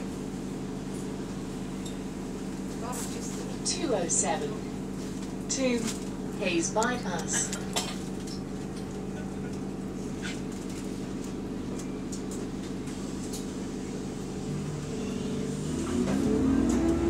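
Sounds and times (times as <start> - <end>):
bus engine idling: 0.0 - 15.9.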